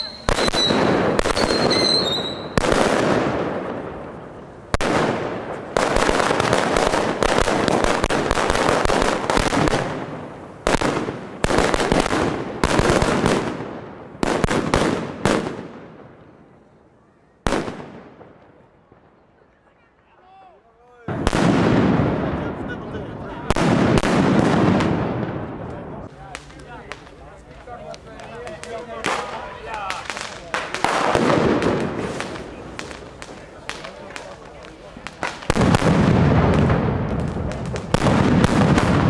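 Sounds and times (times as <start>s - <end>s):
firework bangs echoing: 0.0s - 16.5s, 17.4s - 18.6s, 21.1s - 39.0s.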